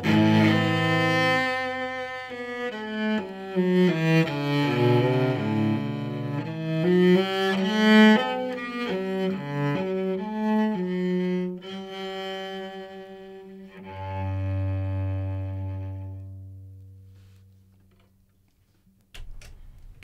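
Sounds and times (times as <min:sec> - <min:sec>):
bowed cello: 0:00.0 - 0:17.7.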